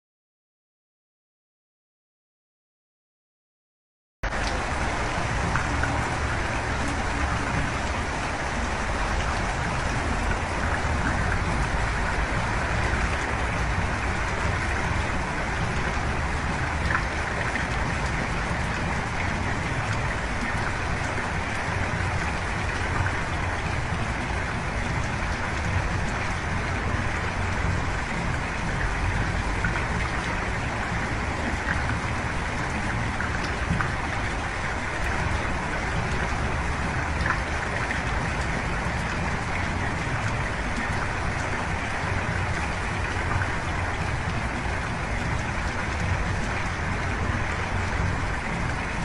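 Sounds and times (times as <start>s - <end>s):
heavy rain falling: 4.2s - 49.0s.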